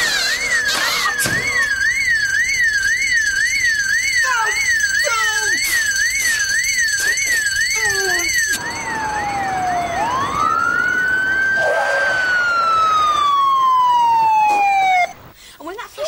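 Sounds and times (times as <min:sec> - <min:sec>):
police siren: 0:00.0 - 0:15.3.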